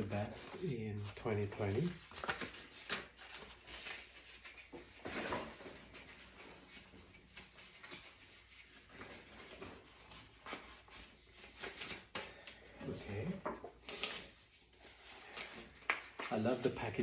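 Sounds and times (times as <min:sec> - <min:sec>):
paper and box packaging rustling: 0:00.0 - 0:17.0.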